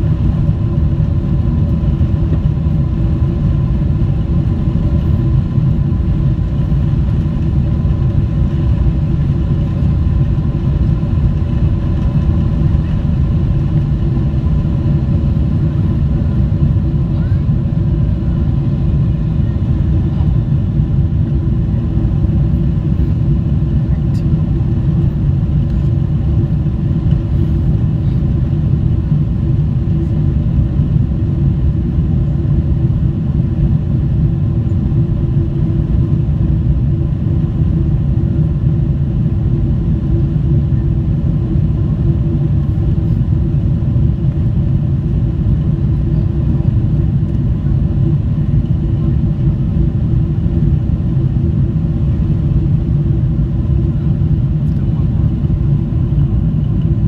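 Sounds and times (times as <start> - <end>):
airplane cabin engine rumble: 0.0 - 57.0
faint hum: 0.0 - 57.0.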